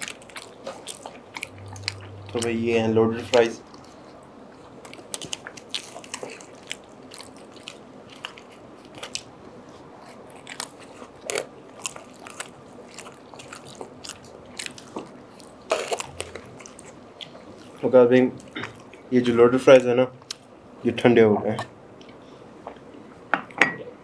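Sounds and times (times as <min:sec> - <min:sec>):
people chewing and crunching food: 0:00.0 - 0:20.7.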